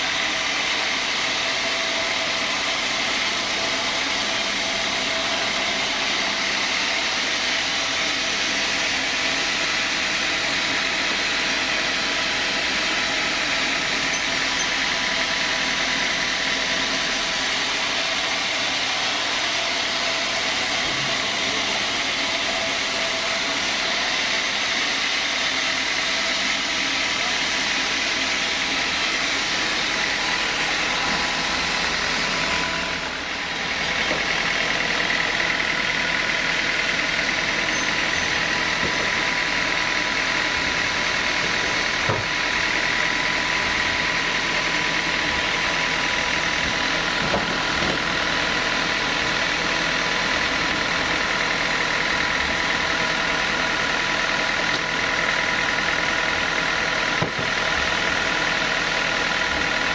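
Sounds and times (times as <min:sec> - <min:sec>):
sawmill saw whining: 0:00.0 - 0:59.9.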